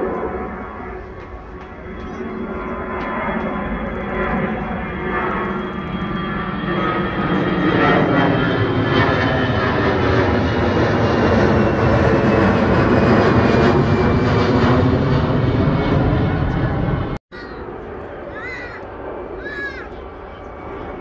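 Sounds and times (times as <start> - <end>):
high jet whine: 0.0 - 21.0
jet engine roar: 0.0 - 21.0.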